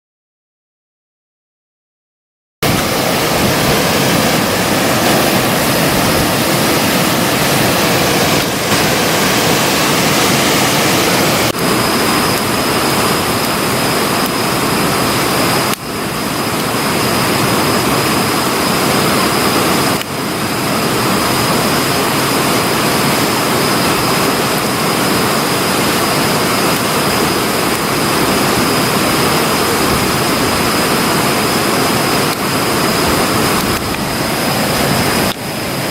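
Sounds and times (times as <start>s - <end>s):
loud rushing noise: 2.6s - 35.9s.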